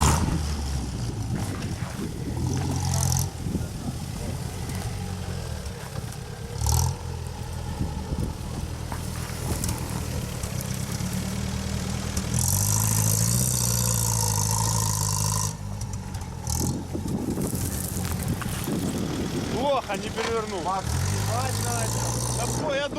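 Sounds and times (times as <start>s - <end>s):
engine revving: 0.0s - 22.9s.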